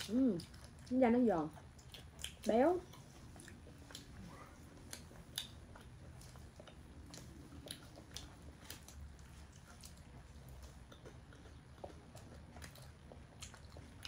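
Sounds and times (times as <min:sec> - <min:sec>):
chewing crispy chicken: 0:00.0 - 0:14.0.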